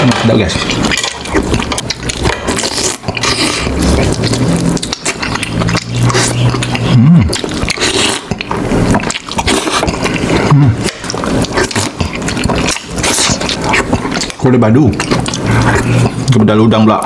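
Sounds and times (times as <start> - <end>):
chewing and smacking: 0.2 - 17.0
slurping broth: 0.5 - 16.3.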